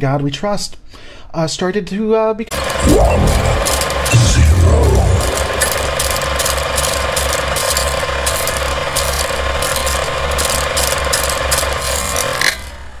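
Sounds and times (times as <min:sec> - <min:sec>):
film projector clatter: 0:02.5 - 0:13.0.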